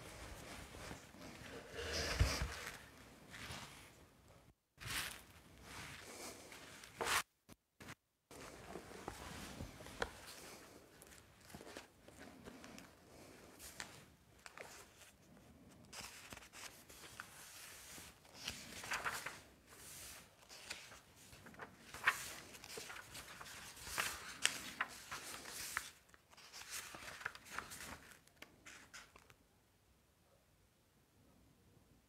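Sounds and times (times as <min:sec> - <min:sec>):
rustling and handling noises: 0:00.0 - 0:29.4.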